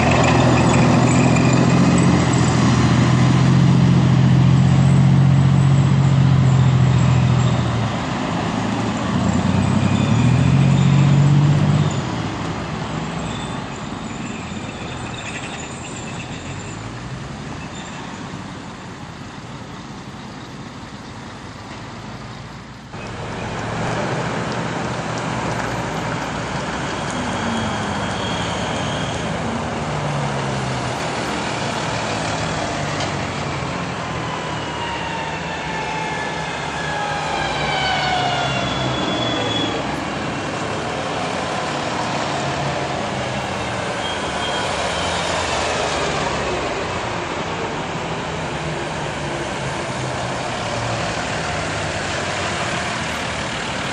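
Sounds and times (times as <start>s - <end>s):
armoured vehicle diesel engine passing: 0.0s - 13.1s, 20.8s - 53.9s
military vehicles engine and tyre noise: 0.0s - 53.9s.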